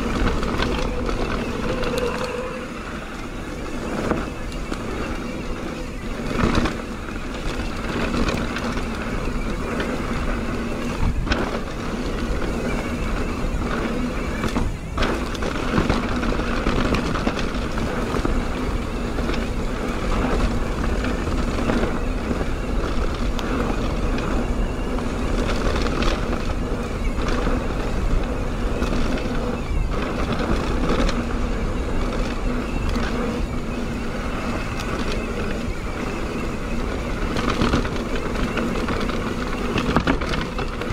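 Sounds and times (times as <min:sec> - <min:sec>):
tyre and wind rush: 0:00.0 - 0:40.9.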